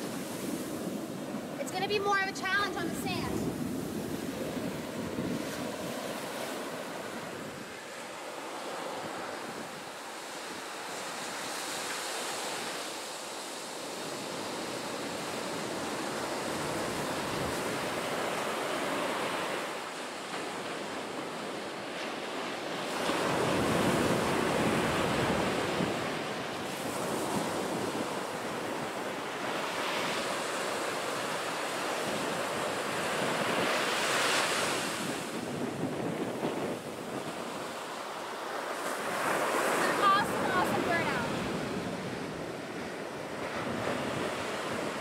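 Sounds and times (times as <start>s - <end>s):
ocean surf breaking: 0.0s - 45.0s.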